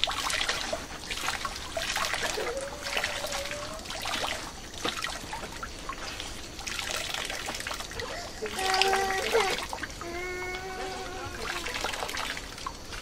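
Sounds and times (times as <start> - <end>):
liquid trickling into metal basin: 0.0 - 13.0
wet squelches of mash: 0.0 - 13.0.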